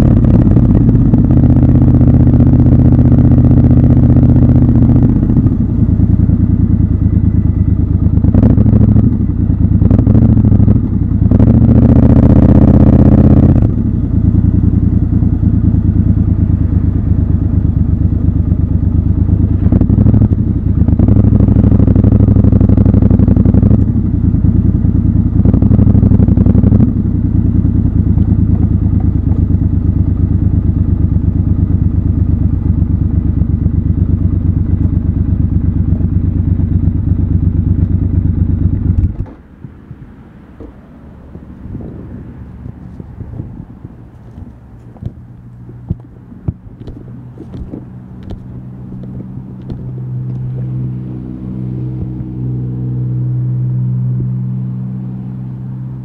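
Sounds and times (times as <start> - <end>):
motorcycle engine revving: 0.0 - 39.5, 40.6 - 56.0.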